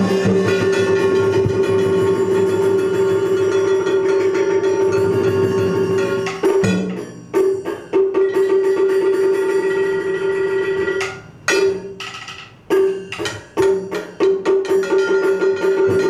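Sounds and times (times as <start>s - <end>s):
drum and wood block strikes: 0.0s - 16.0s.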